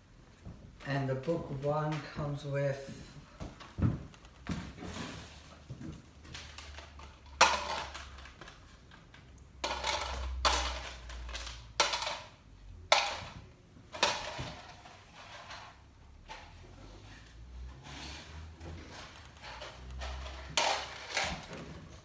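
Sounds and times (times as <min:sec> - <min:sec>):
hard objects clattering: 0:03.5 - 0:22.0.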